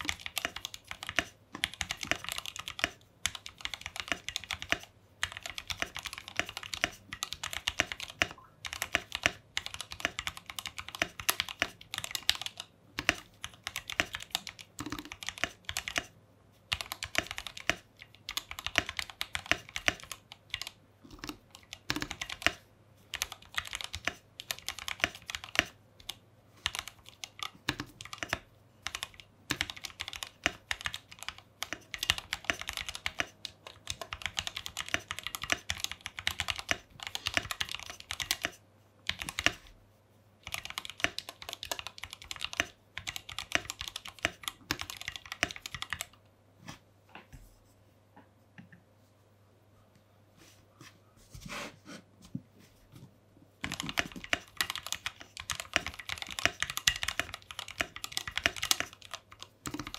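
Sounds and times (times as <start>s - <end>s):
mechanical keyboard typing: 0.0s - 16.1s, 16.7s - 39.7s, 40.4s - 46.2s, 53.6s - 59.9s.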